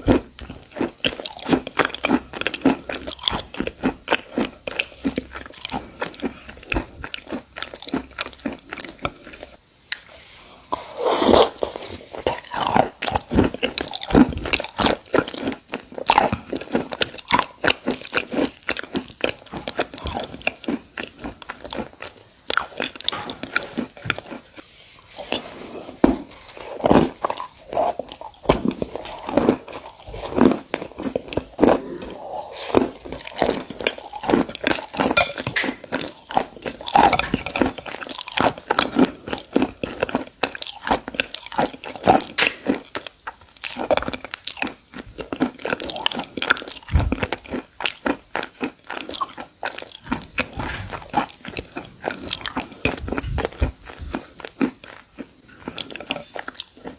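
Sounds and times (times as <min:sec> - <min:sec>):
person chewing crunchy stone: 0:00.0 - 0:56.9.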